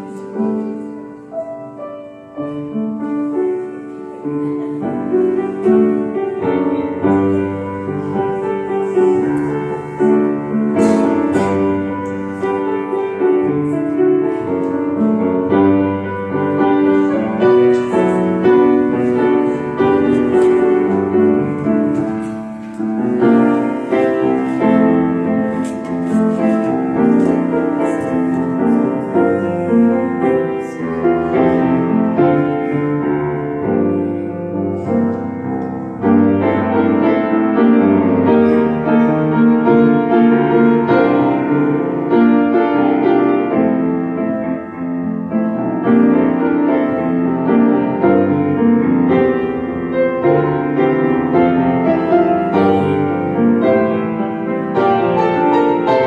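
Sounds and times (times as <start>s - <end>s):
solo grand piano: 0.0s - 56.0s.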